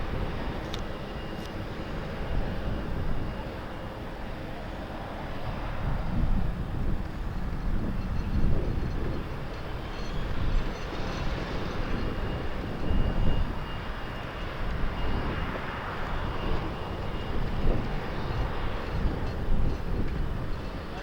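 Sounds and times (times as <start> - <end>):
aircraft engines hissing: 0.0 - 21.0
wind buffeting microphone: 0.0 - 21.0.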